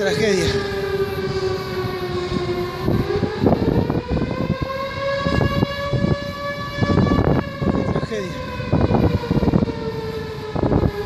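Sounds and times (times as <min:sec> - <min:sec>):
alarm siren wailing: 0:00.0 - 0:11.0
low rumbling gusts: 0:00.0 - 0:11.0.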